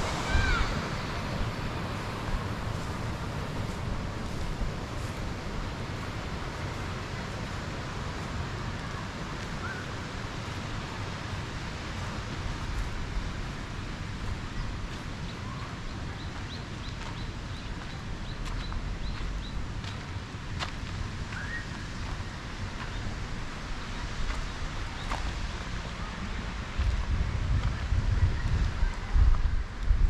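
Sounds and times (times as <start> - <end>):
wind and rustling: 0.0 - 30.0.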